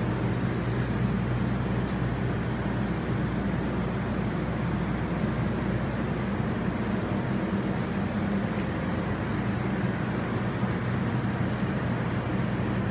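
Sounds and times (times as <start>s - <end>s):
low mechanical hum and rumble: 0.0s - 12.9s.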